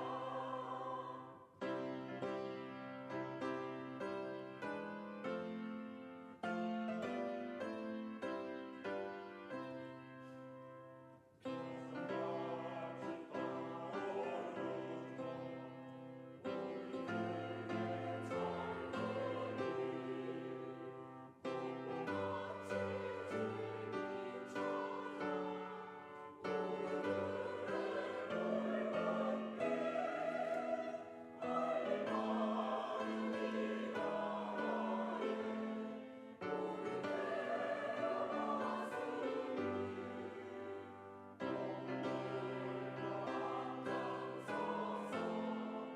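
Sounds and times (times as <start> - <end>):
choir singing: 0.0 - 5.6, 6.3 - 10.4, 11.4 - 45.9
piano accompaniment: 1.6 - 45.9.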